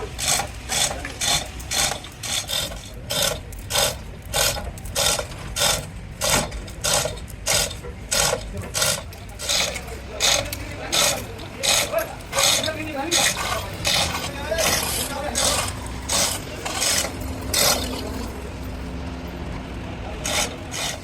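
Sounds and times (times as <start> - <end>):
rasping metal strokes: 0.0 - 18.8, 20.2 - 21.0.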